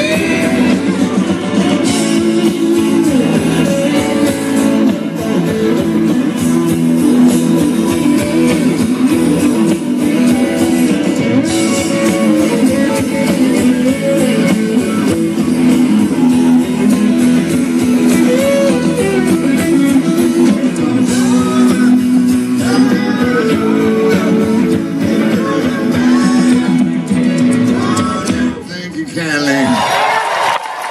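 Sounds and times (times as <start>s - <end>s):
electric guitar solo: 0.0s - 28.7s
live rock band playing: 0.0s - 30.9s.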